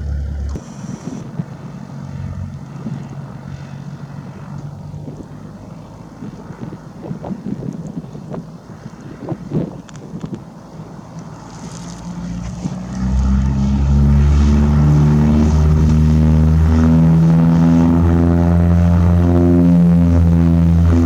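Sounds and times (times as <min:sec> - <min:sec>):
propeller aircraft engine running: 0:00.0 - 0:21.0.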